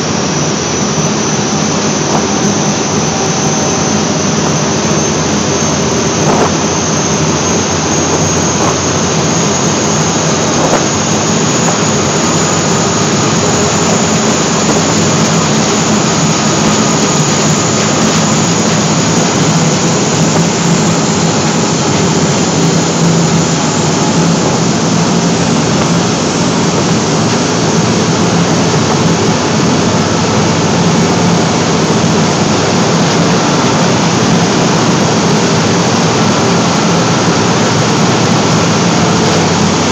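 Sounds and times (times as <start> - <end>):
boat engine running loud: 0.0 - 39.9
churning water: 0.0 - 39.9.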